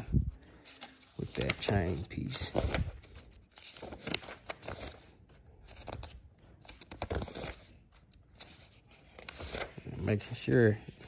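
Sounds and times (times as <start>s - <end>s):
paper pages turning: 0.0s - 11.0s.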